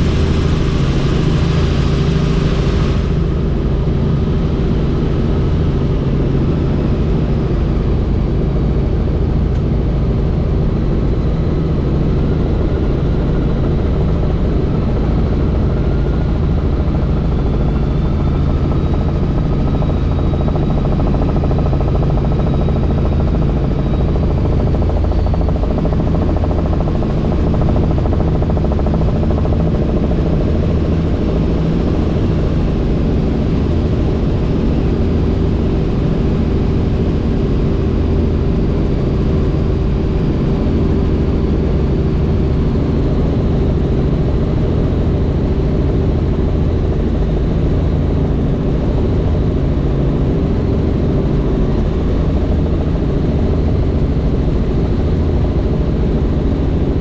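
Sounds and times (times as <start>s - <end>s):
helicopter rotor and turbine drone: 0.0s - 57.0s.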